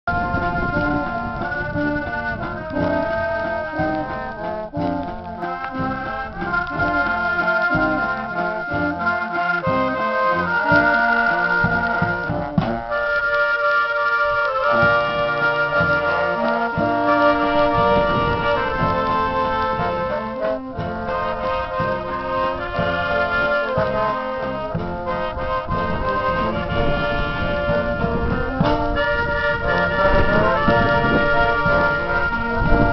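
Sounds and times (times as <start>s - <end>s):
trumpets and saxophone melody: 0.0s - 32.9s
bass drum: 0.1s - 13.0s, 14.7s - 29.1s
snare drum: 0.1s - 32.9s.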